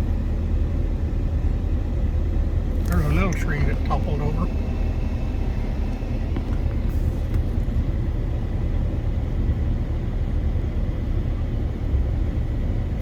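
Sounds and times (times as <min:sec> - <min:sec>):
truck engine and tyre rumble: 0:00.0 - 0:13.0.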